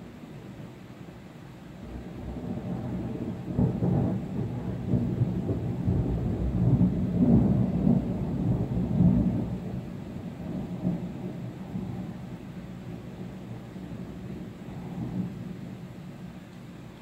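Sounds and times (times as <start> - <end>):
rolling thunder: 1.8 - 16.2.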